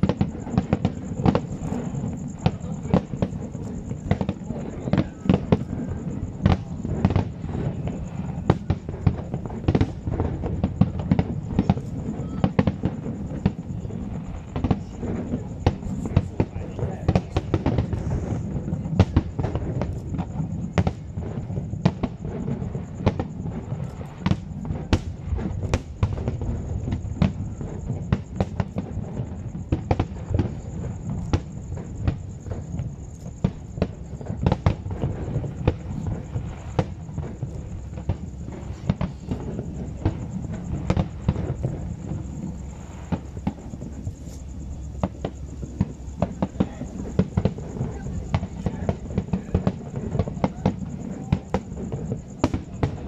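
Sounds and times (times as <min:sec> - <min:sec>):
continuous low rumble: 0:00.0 - 0:53.0
firework shells bursting: 0:00.0 - 0:53.0.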